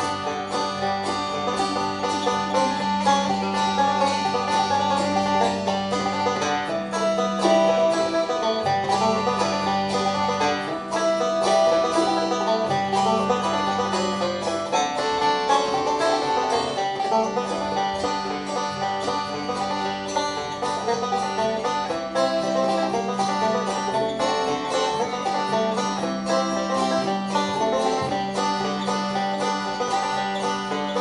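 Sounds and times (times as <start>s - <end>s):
bass notes: 0.0s - 31.0s
plucked string instrument music: 0.0s - 31.0s.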